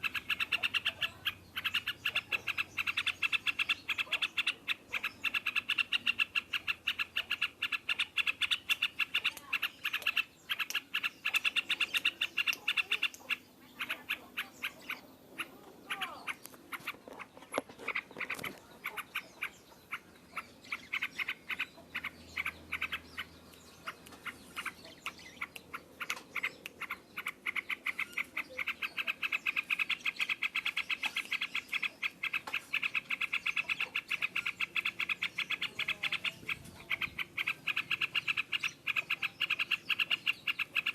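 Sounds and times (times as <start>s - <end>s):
bird singing chattering runs: 0.0s - 40.9s.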